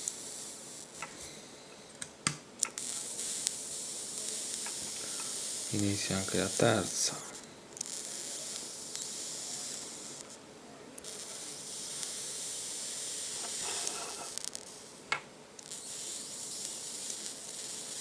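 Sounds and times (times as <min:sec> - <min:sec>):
hissing sizzle of hot coil: 0:00.0 - 0:01.8, 0:02.6 - 0:10.4, 0:11.0 - 0:18.0.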